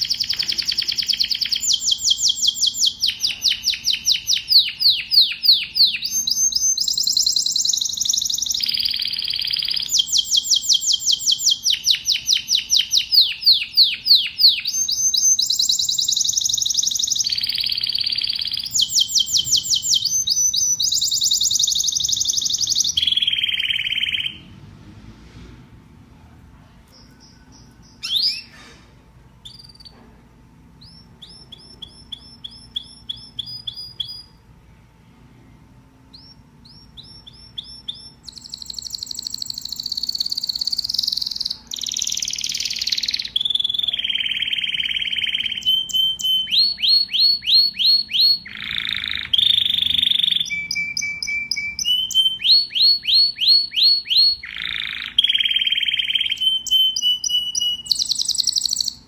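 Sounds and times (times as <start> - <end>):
canary singing trills: 0.0 - 24.6, 26.9 - 28.7, 29.4 - 30.0, 30.7 - 34.6, 36.0 - 59.0.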